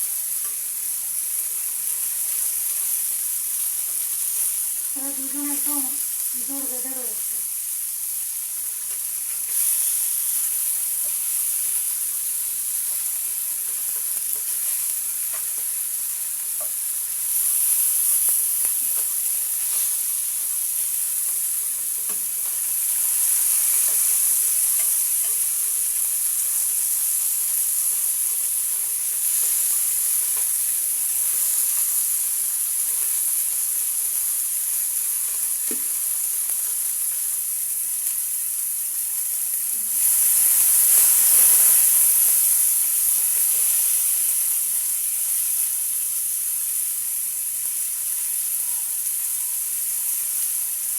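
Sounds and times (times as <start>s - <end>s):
fish sizzling in frying pan: 0.0s - 50.9s.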